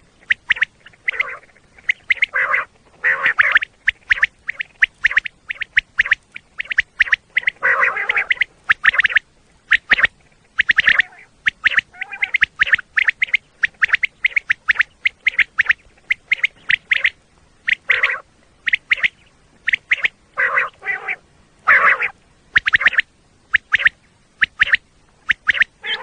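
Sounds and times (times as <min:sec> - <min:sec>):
quail calling: 0:00.0 - 0:26.0.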